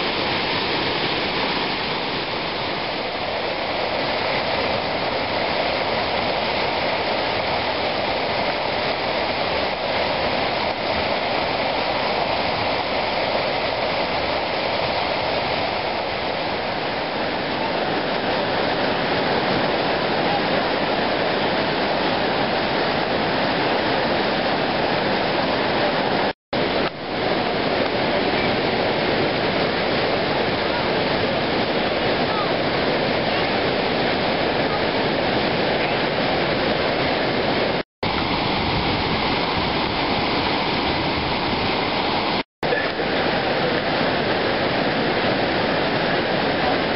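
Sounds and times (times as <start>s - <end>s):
rush of falling water: 0.0s - 46.9s.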